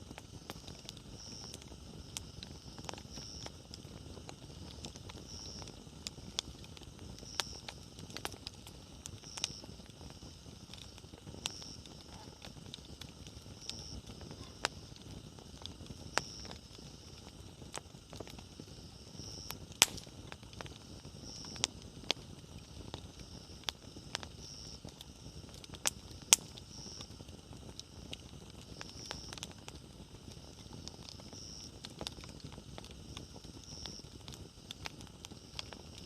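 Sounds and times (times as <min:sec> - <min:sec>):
firewood popping: 0:00.0 - 0:36.0
flames hissing and rumbling: 0:00.0 - 0:36.0.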